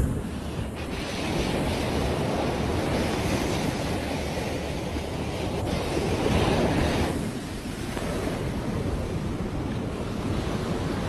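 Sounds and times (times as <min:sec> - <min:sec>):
sea surf washing up beach: 0:00.0 - 0:11.0
wind buffeting microphone: 0:00.0 - 0:11.0.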